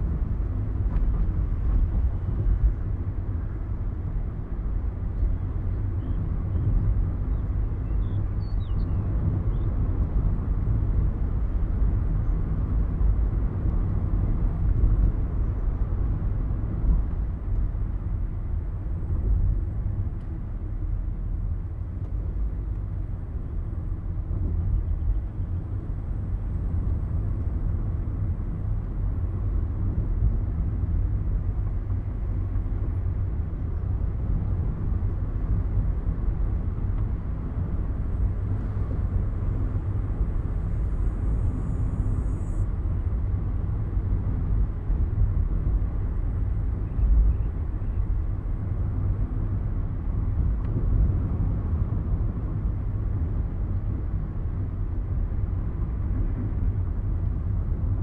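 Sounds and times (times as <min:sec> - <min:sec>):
car engine and tyre road noise: 0:00.0 - 0:58.0.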